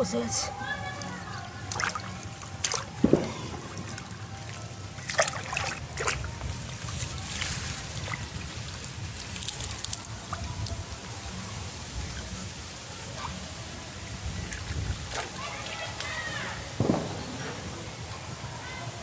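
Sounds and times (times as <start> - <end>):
shallow water trickling: 0.0 - 19.0
water splashes: 0.0 - 19.0.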